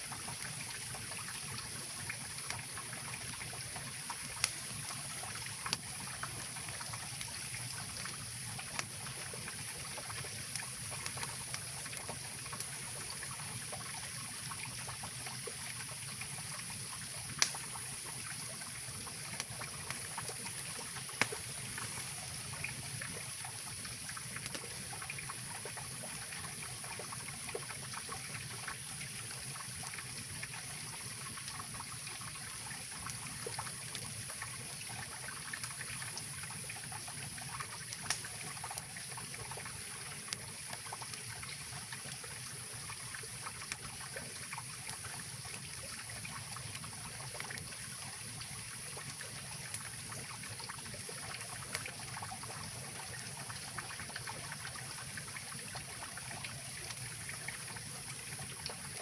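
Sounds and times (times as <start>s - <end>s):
campfire crackling: 0.1s - 59.0s.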